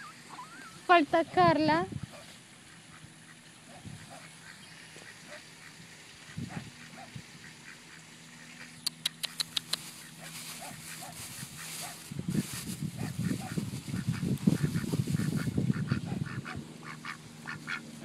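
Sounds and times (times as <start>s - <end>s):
ducks quacking: 0.0s - 12.0s, 13.0s - 18.0s.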